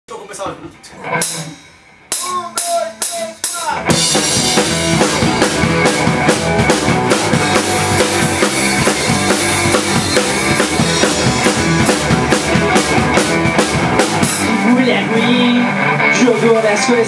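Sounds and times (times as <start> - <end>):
drums steady driving beat: 0.1 - 17.0
rock band playing: 0.1 - 17.0.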